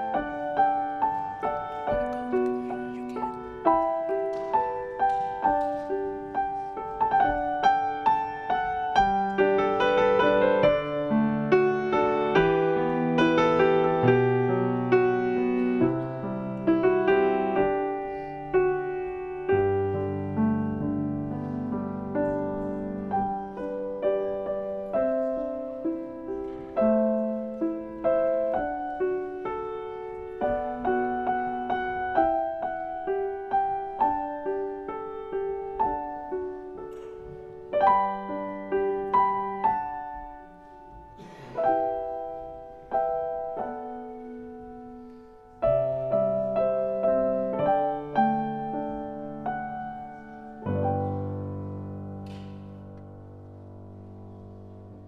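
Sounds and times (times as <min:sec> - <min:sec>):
grand piano melody: 0:00.0 - 0:55.0.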